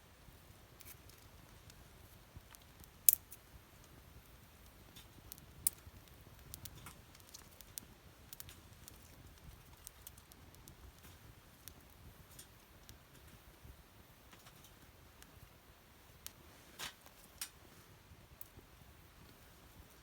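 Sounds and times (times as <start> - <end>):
campfire wood crackling: 0.2 - 20.0.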